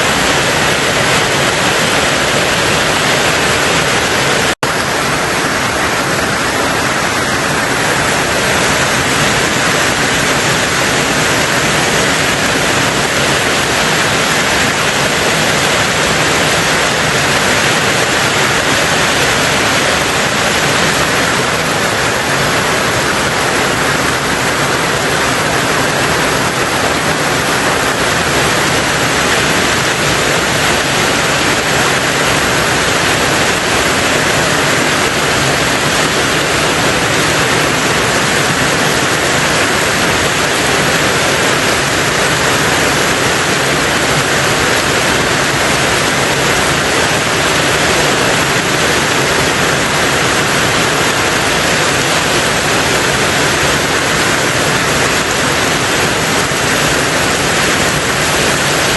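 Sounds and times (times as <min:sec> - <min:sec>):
heavy rain on a tin roof: 0:00.0 - 0:58.9.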